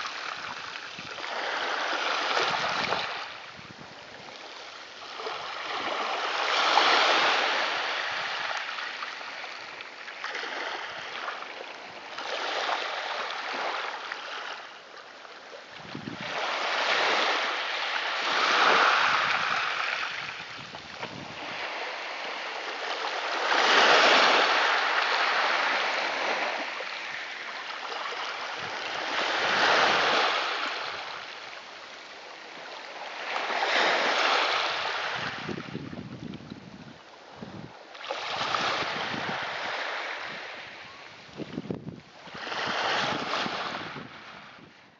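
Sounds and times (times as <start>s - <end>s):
sea waves washing in: 0.0s - 14.7s, 15.6s - 44.9s.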